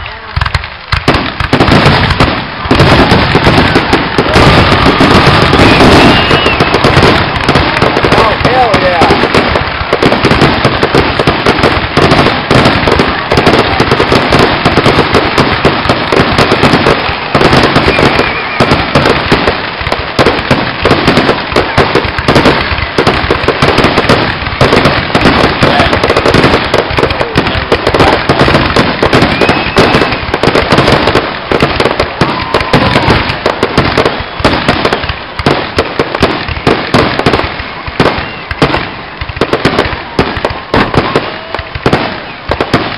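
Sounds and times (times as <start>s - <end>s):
ground firework crackling: 0.0s - 42.9s.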